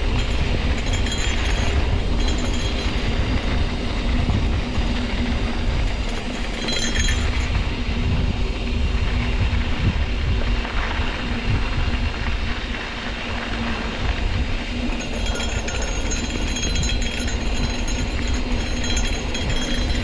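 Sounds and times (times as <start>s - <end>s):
bike tyres and frame rattling: 0.0s - 20.0s
wind buffeting microphone: 0.0s - 20.0s.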